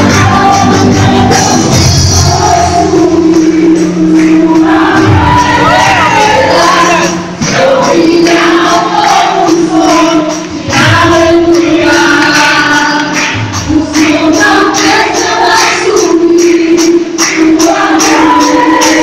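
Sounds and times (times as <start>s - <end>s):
band playing: 0.0s - 19.0s
congregation singing along: 0.0s - 19.0s
women singing into microphones: 0.0s - 19.0s.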